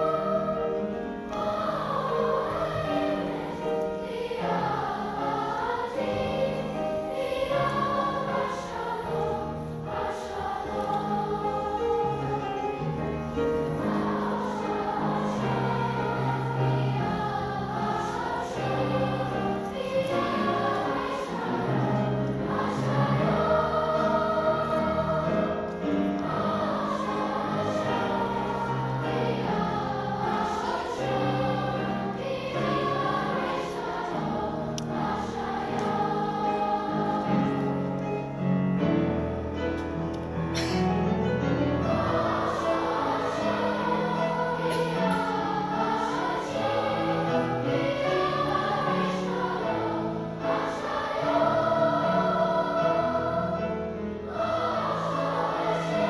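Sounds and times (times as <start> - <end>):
children's choir singing: 0.0 - 56.0
piano accompaniment: 0.0 - 56.0.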